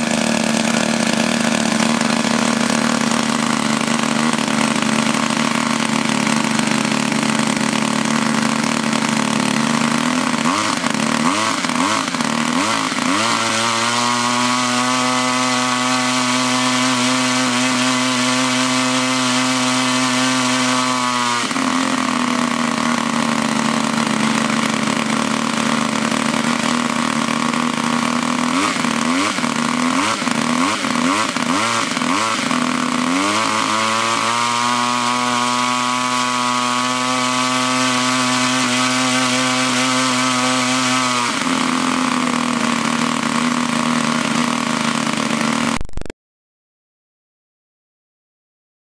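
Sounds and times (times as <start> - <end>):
two-stroke engine revving: 0.0 - 46.1.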